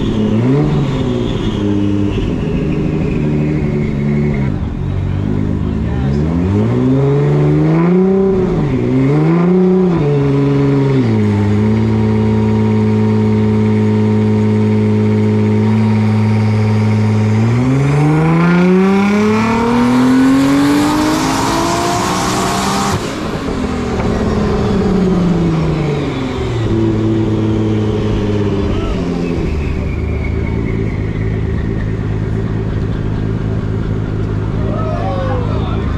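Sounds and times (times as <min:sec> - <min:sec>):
car engine revving: 0:00.0 - 0:35.9.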